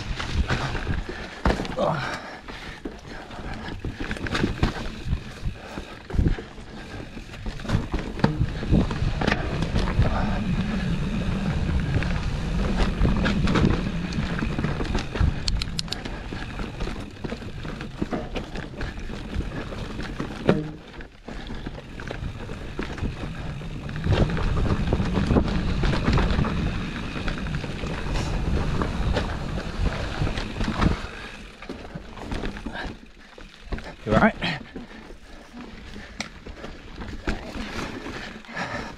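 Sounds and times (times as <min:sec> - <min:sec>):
bike rattling and knocking: 0:00.0 - 0:38.9
bike tyre noise on trail: 0:00.0 - 0:38.9.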